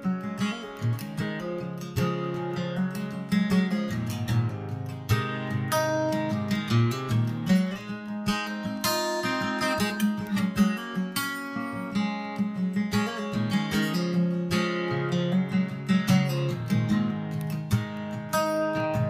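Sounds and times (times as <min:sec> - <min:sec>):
acoustic guitar strummed and picked: 0:00.0 - 0:19.0.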